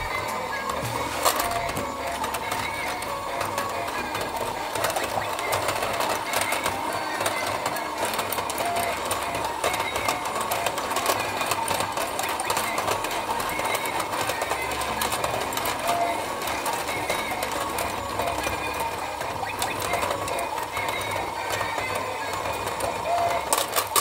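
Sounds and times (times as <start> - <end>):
rapid clicking: 0.0 - 24.0
toy motor and gears whirring: 0.0 - 24.0.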